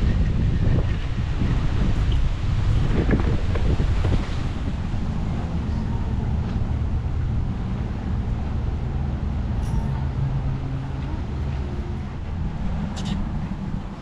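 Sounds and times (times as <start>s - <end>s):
low engine rumble: 0.0s - 14.0s
wind buffeting microphone: 0.0s - 14.0s.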